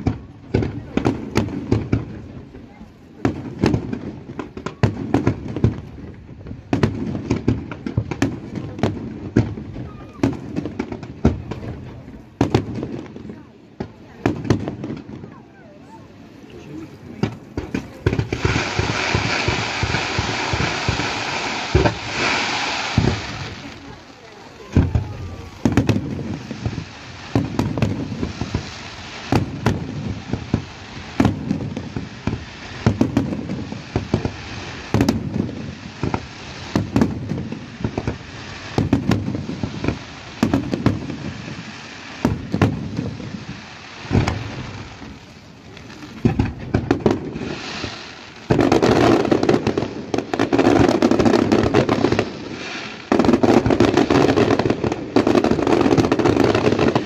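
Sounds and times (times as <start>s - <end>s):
firework crackle: 0.0s - 57.0s
firework shells bursting with bangs: 3.1s - 57.0s.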